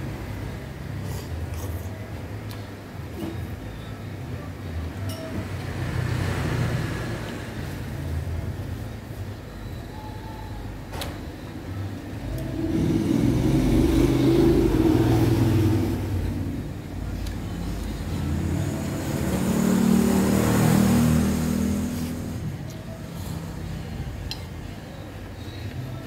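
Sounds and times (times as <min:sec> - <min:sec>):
vehicles driving past: 0:00.0 - 0:09.9, 0:11.6 - 0:26.0.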